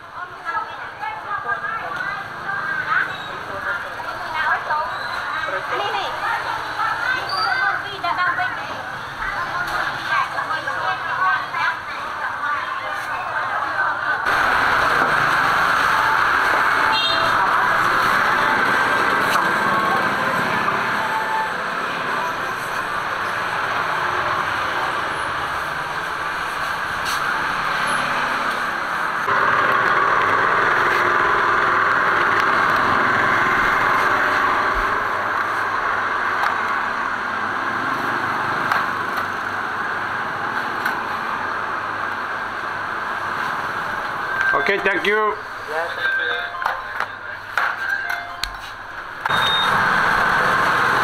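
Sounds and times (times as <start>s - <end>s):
street traffic noise: 0.0s - 51.0s.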